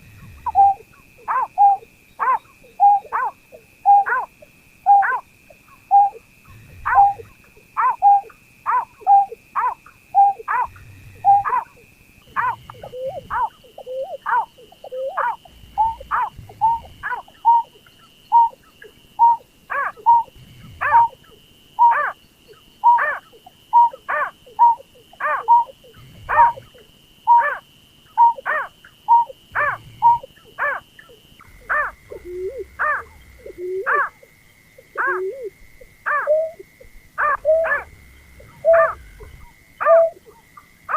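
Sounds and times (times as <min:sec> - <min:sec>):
faint steady high tone: 0:00.0 - 0:40.9.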